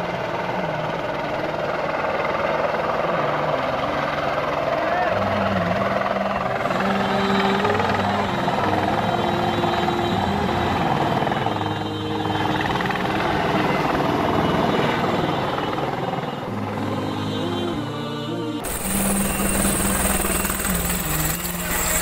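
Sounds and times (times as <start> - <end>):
helicopter rotor and turbine: 0.0 - 22.0.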